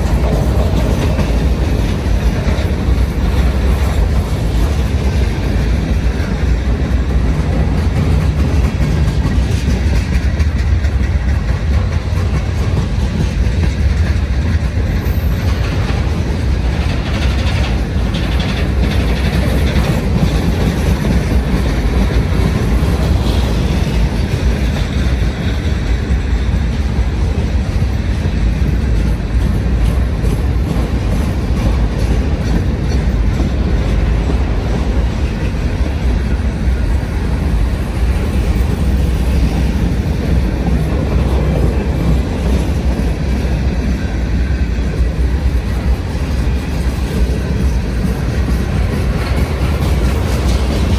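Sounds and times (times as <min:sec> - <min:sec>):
freight train rumbling on rails: 0:00.0 - 0:50.9.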